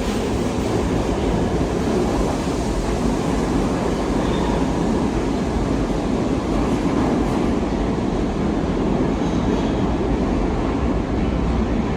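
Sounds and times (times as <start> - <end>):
subway train wheels rumbling: 0.0 - 11.9.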